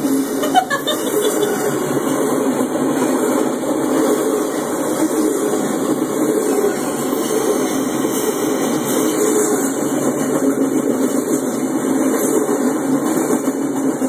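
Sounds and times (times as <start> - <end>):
freight train wheels on rails: 0.0 - 14.0.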